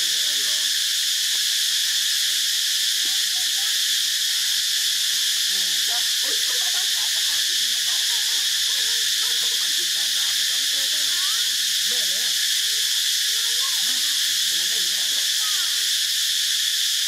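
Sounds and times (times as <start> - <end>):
faint wavering calls: 0.0 - 17.0
insects droning: 0.0 - 17.0.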